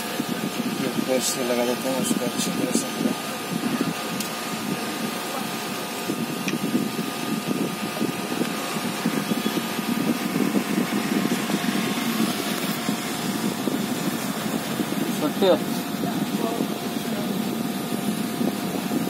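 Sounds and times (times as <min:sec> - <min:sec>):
faint constant whine: 0:00.0 - 0:19.0
machine low rumble: 0:00.0 - 0:19.0.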